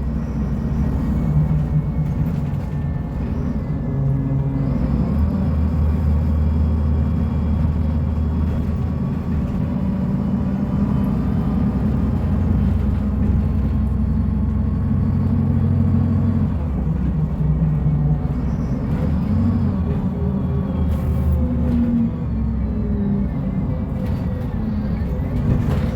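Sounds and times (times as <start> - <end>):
bus diesel engine rumbling: 0.0 - 25.9.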